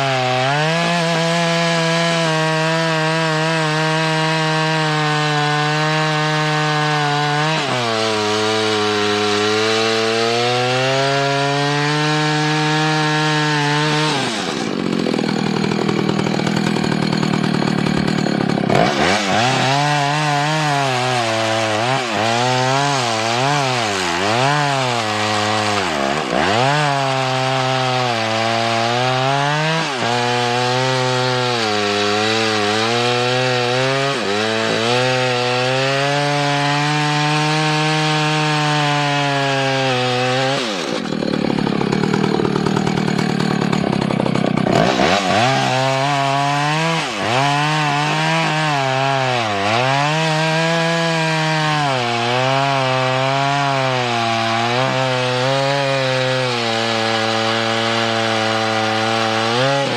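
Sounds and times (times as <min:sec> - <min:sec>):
chainsaw cutting through log: 0:00.0 - 0:59.9.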